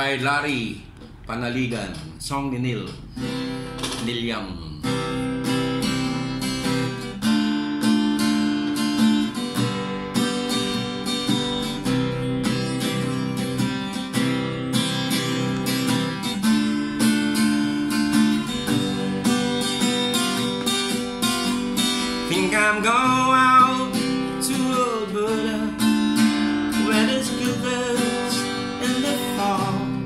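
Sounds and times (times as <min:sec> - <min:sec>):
acoustic guitar strumming: 0:01.8 - 0:30.0.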